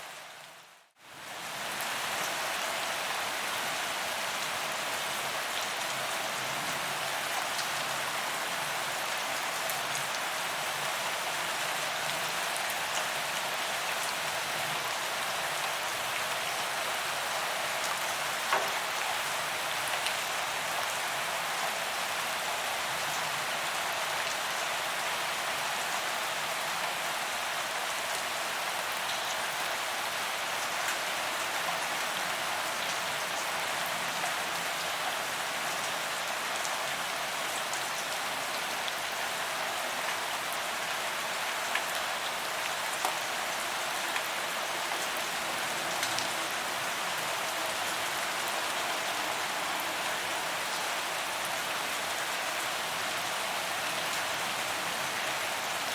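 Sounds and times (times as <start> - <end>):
heavy rain on pavement: 0.0 - 55.9.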